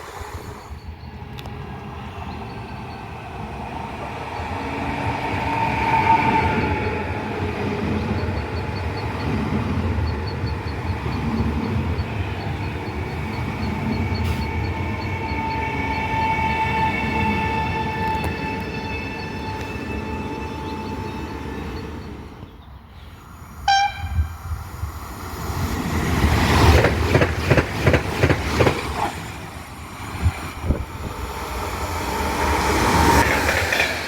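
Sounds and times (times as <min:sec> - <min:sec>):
train rumbling past: 0:00.0 - 0:34.0.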